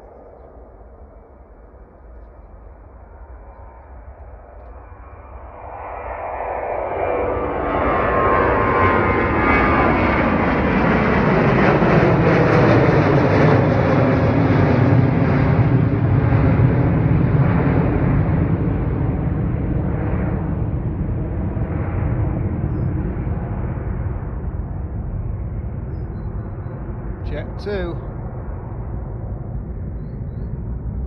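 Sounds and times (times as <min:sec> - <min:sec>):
jet engines roaring at take-off: 0:00.0 - 0:31.0.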